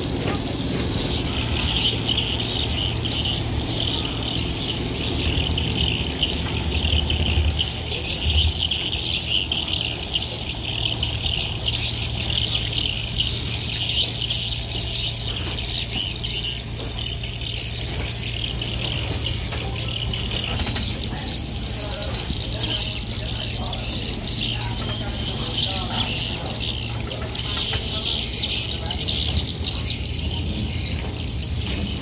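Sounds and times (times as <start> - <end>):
low rumbles: 0.0 - 32.0
many birds chirping: 0.0 - 32.0
steady low hum: 0.0 - 32.0.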